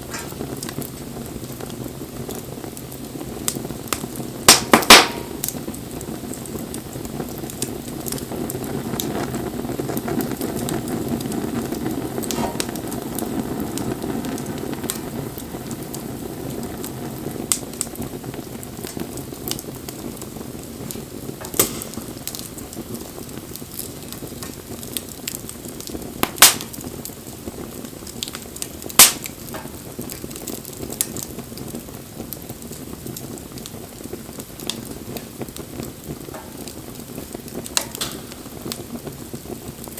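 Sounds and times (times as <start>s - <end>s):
bonfire flames hissing: 0.0s - 39.9s
burning wood crackling and popping: 0.0s - 39.9s.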